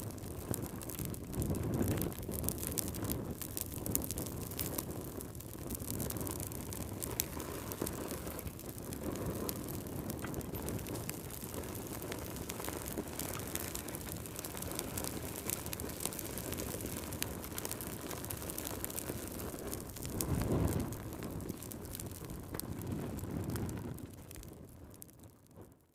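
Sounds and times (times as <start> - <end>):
fire crackling and popping: 0.0 - 25.9
low rumble of burning: 0.0 - 25.9.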